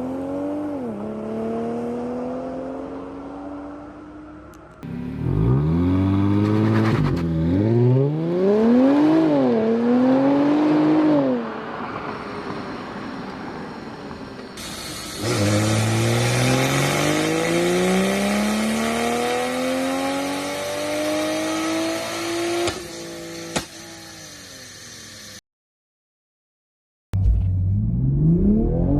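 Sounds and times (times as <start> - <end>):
sports car engine accelerating: 0.0 - 12.6, 14.6 - 24.8, 27.2 - 28.9.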